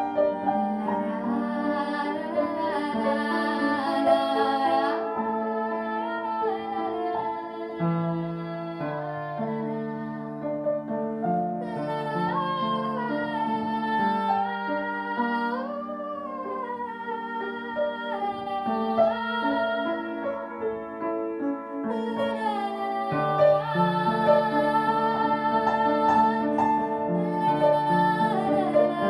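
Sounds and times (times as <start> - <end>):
cello melody: 0.0 - 29.0
piano: 0.0 - 29.0.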